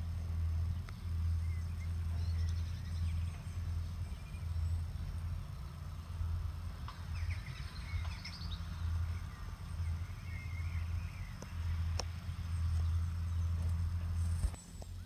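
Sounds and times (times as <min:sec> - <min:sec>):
birds chirping: 0:00.0 - 0:15.0
low uneven rumble: 0:00.0 - 0:15.0.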